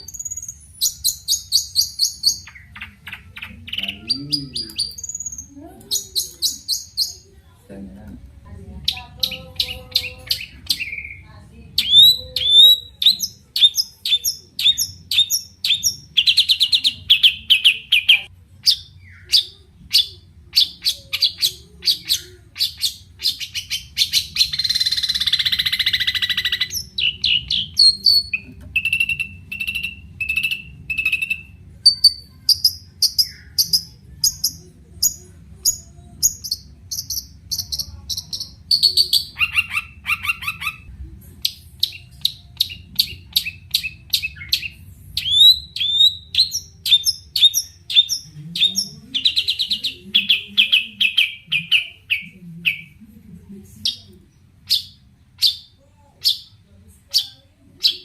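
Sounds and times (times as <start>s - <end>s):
harsh buzzy bird chatter: 0.0s - 7.3s, 8.8s - 52.9s.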